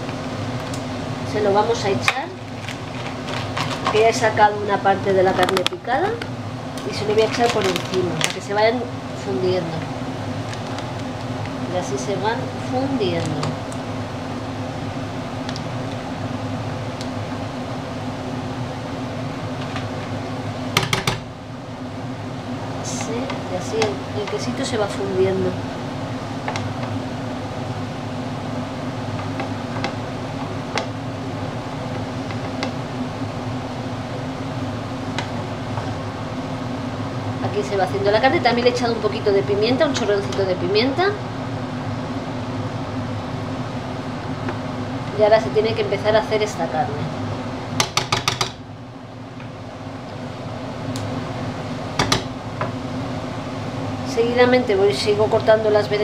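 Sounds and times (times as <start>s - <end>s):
steady hum and hiss: 0.0s - 56.0s.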